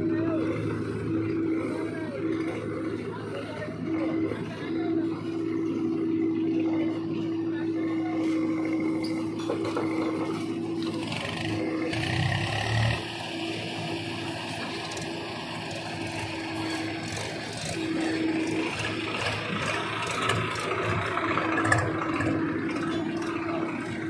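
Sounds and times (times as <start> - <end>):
diesel engines humming: 0.0 - 24.0.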